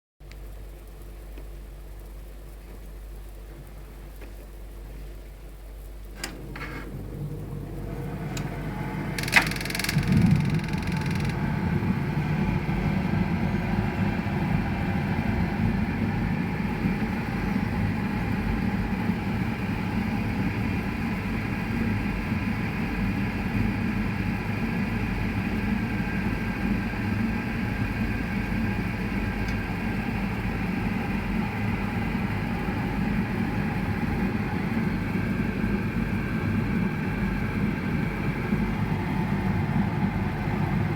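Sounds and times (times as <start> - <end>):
boiler rumbling with a hum: 0.2 - 40.9.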